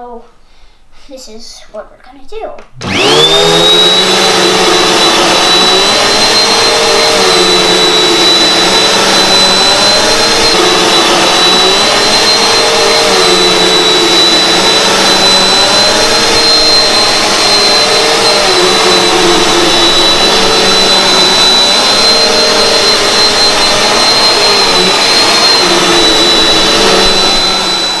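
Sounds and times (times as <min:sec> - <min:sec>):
vacuum cleaner running on carpet: 0:02.8 - 0:28.0.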